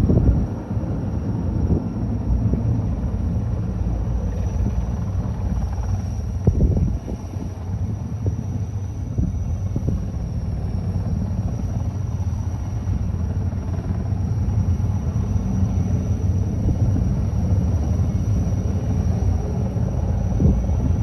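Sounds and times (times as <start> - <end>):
helicopter rotor and engine rumble: 0.0 - 21.0.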